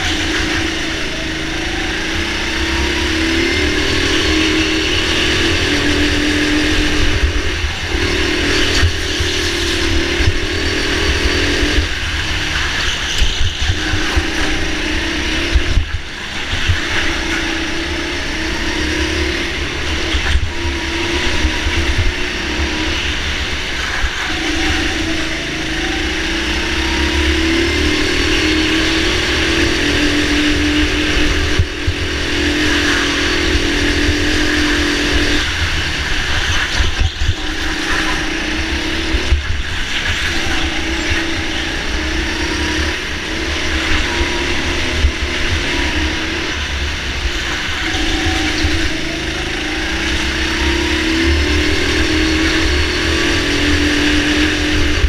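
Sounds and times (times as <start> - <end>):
go-kart motor running: 0.0 - 55.0
low rumble and buffeting: 0.0 - 55.0.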